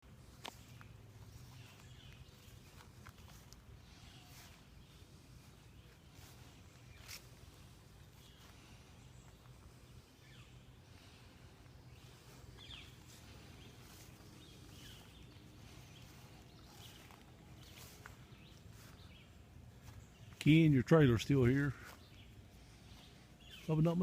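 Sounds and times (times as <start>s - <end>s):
low steady hum: 0.0s - 24.0s
faint bird chirps: 0.5s - 24.0s.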